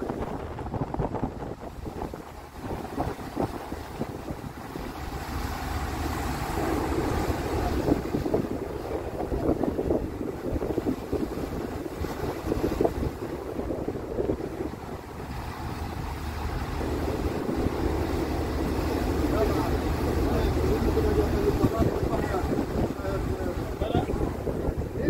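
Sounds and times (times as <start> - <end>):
choppy water washing: 0.0 - 25.0
steady low rumble: 0.0 - 25.0
wind buffeting microphone: 0.0 - 25.0.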